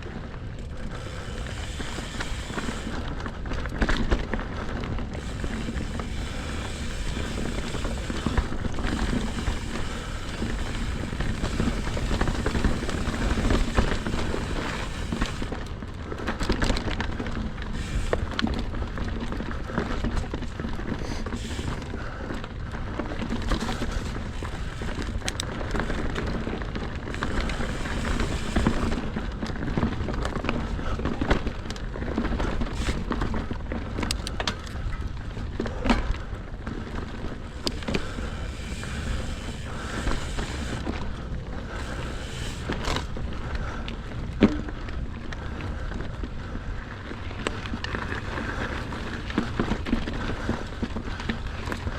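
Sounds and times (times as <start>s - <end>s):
bike rattling and clicking: 0.0s - 51.9s
bike tyre rumble: 0.0s - 51.9s.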